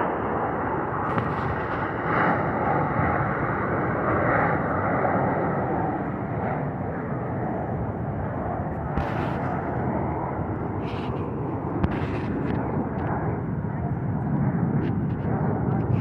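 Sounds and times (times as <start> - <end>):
airplane flying overhead: 0.0 - 16.0.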